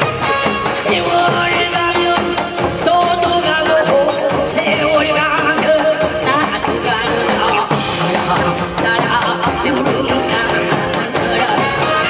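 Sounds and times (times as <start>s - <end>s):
drums beating steadily: 0.0s - 12.0s
person singing: 0.0s - 12.0s.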